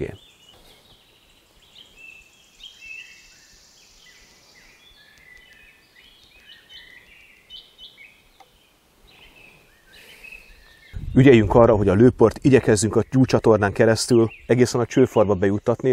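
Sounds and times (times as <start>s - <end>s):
songbirds singing: 0.0s - 15.9s.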